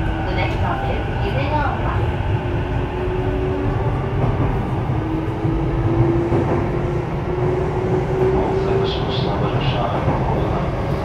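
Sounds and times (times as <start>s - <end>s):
train running gear rumble: 0.0s - 11.0s.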